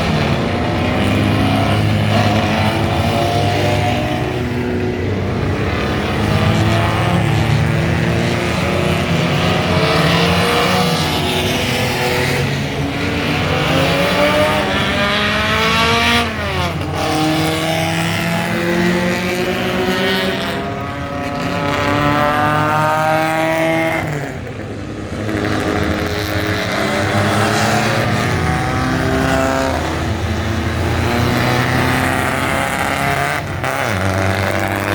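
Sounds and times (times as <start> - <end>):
race car engines revving: 0.0 - 34.9.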